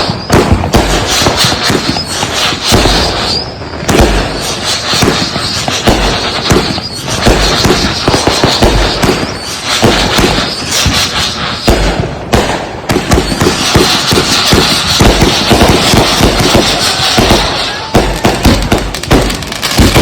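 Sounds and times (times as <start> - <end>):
firework bangs and crackling: 0.0 - 20.0
high firework whistle: 0.0 - 20.0.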